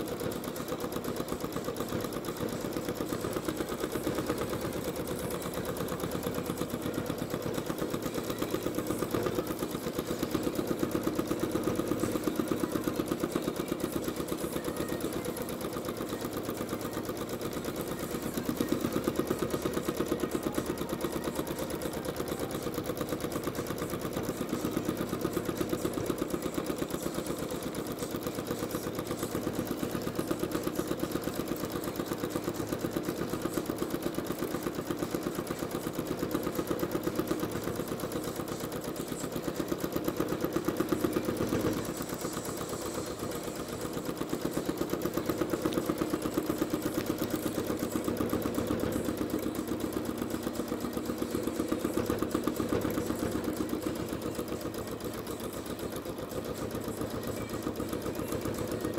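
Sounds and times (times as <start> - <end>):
sewing machine stitching: 0.0 - 58.9.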